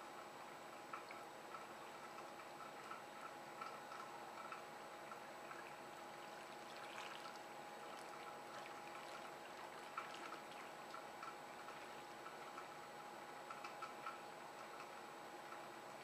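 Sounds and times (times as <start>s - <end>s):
light irregular ticks: 0.2s - 6.6s, 7.2s - 15.8s
water trickling and lapping: 0.4s - 13.8s.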